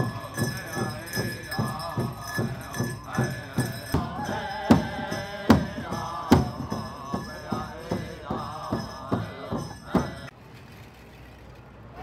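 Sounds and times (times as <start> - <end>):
drum struck in steady beat: 0.0 - 10.3
group of singers chanting: 0.0 - 10.3.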